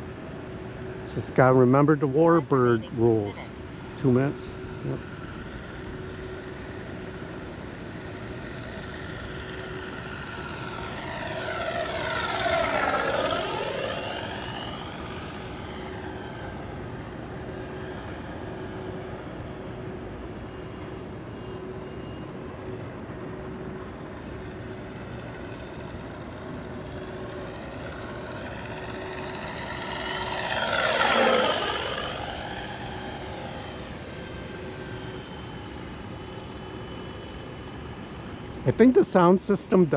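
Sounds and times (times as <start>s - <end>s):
model plane passing by: 0.0s - 39.9s
simulated radial engine sound: 0.0s - 39.9s.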